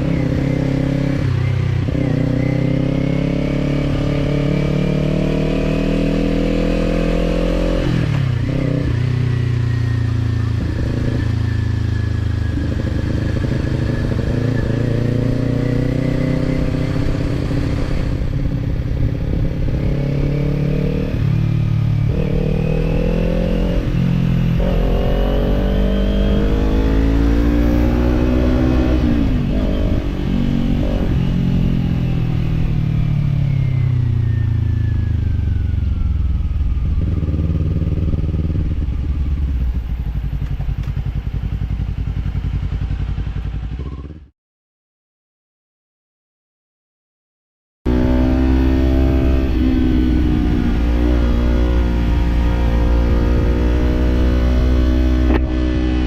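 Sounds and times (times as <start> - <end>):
motorcycle engine accelerating: 0.0 - 44.3, 47.9 - 56.0.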